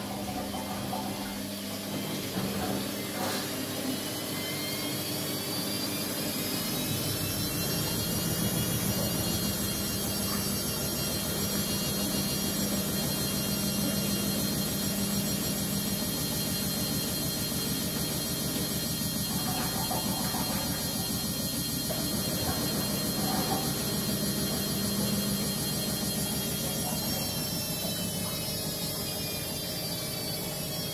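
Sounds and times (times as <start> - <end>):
washing machine spinning: 0.0 - 30.9.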